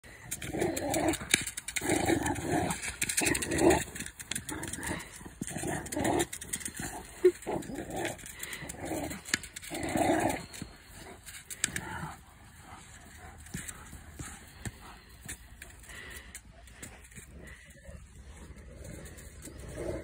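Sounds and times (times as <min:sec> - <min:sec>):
dog play-growling: 0:00.1 - 0:20.0.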